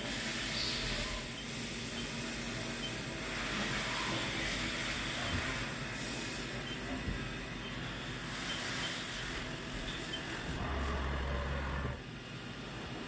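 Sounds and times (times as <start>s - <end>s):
milling machine hissing: 0.0s - 12.9s.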